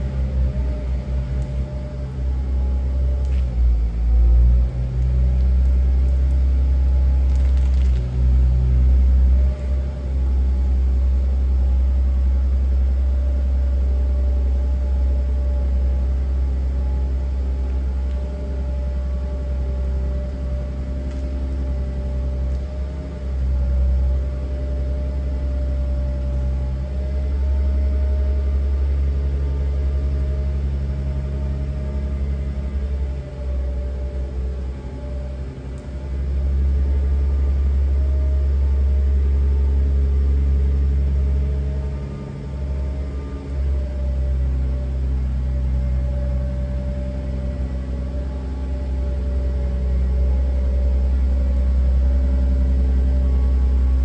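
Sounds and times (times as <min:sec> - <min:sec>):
faint steady whine: 0:00.0 - 0:54.0
forklift engine rumbling: 0:00.0 - 0:54.0.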